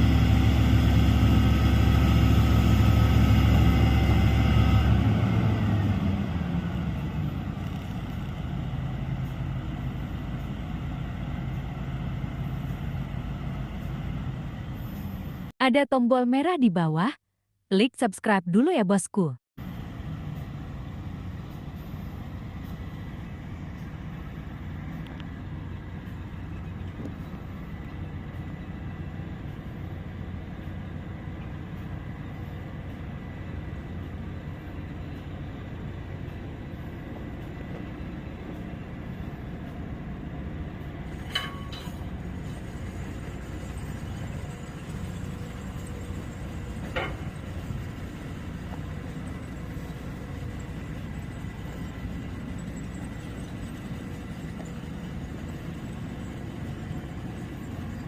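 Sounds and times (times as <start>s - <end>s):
excavator diesel engine running: 0.0s - 15.5s, 19.6s - 58.0s.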